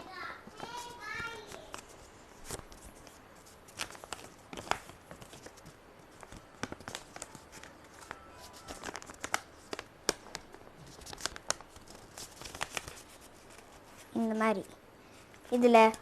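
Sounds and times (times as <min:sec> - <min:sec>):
paper being folded: 0:00.5 - 0:14.6.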